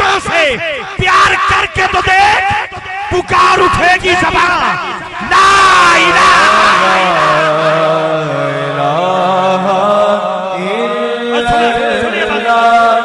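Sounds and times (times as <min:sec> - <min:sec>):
man chanting over loudspeaker: 0:00.0 - 0:13.0.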